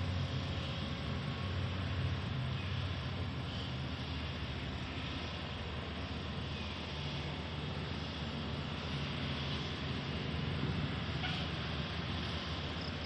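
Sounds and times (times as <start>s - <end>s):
excavator diesel engine drone: 0.0s - 13.0s.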